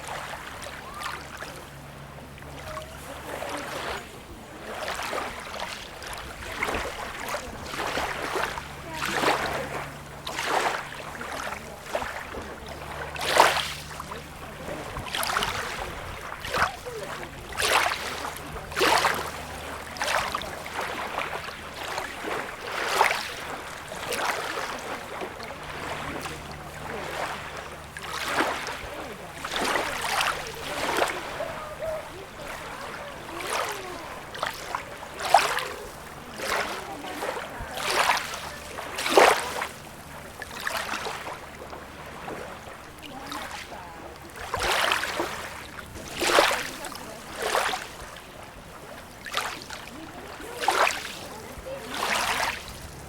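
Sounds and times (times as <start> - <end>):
small waves lapping on beach: 0.0 - 53.0.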